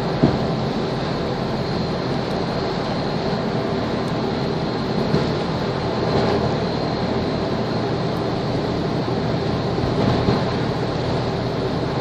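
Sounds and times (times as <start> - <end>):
marine engine drone: 0.0 - 12.0
water wash: 0.0 - 12.0.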